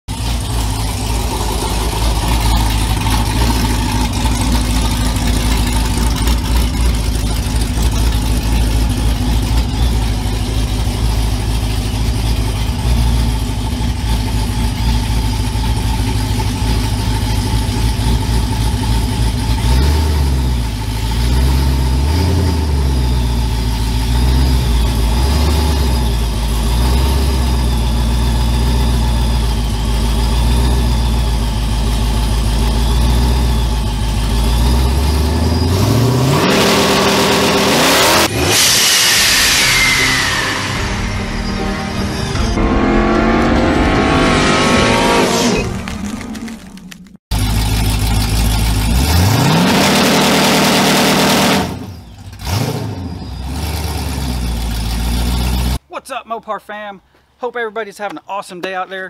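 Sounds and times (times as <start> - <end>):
pickup truck engine rumbling: 0.0 - 55.9.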